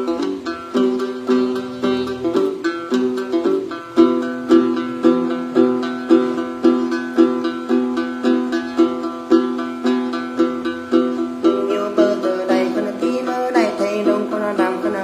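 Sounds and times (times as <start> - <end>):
plucked lute: 0.0 - 15.0.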